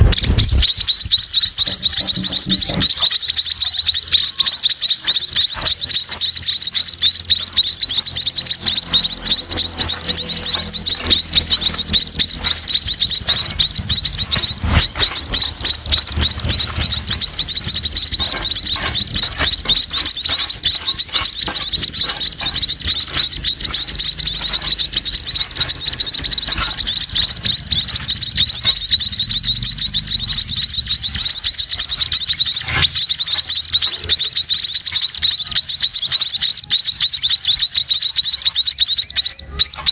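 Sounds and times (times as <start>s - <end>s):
nestling birds begging chirps: 0.0s - 39.9s.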